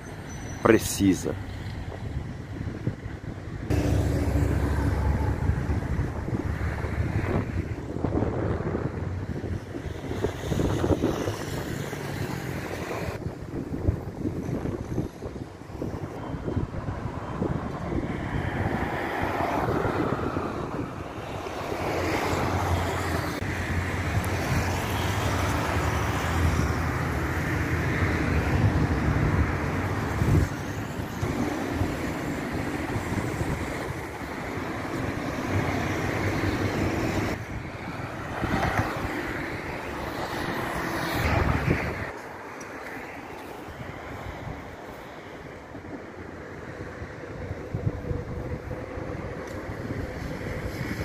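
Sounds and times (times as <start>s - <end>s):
vehicles passing: 0.0s - 51.0s
tyre and wind noise: 1.3s - 51.0s.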